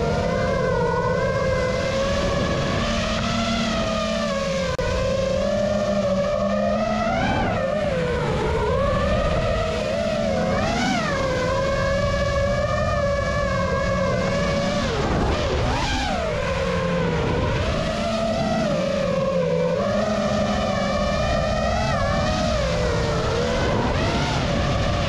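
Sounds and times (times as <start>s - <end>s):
drone propellers whining: 0.0s - 25.0s
wind rumble: 0.0s - 25.0s.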